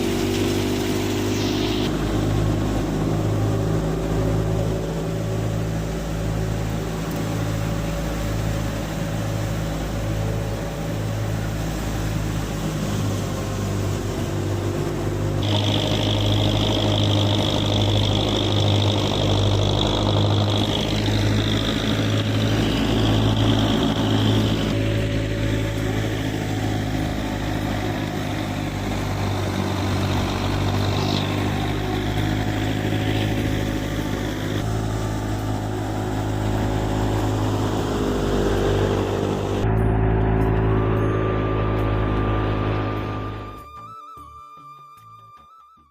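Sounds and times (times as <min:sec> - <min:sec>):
tractor engine running under load: 0:00.0 - 0:43.6
high whine: 0:00.0 - 0:44.3.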